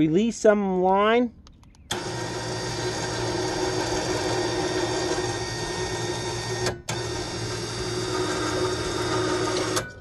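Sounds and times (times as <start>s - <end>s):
electric winch running: 1.9s - 10.0s.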